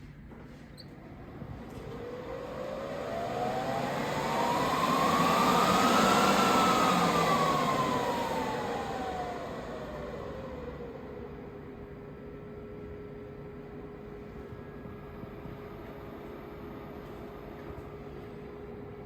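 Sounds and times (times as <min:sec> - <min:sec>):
server fans whining: 0:00.0 - 0:19.0.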